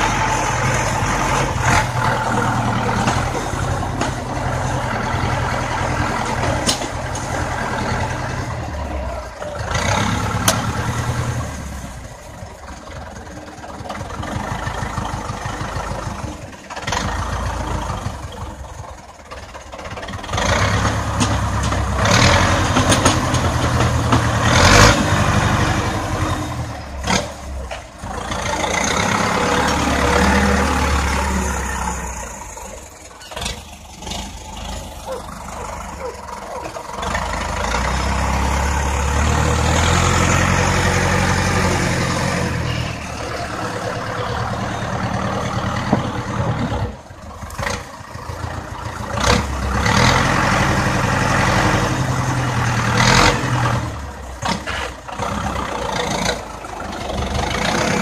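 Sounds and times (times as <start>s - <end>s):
tractor diesel engine revving: 0.0s - 58.0s.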